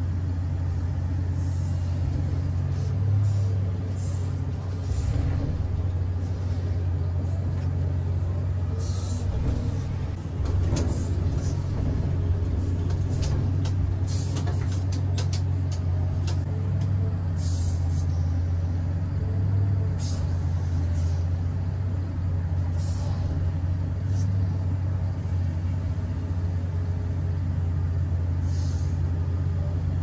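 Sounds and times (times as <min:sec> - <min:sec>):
excavator low drone: 0:00.0 - 0:30.0.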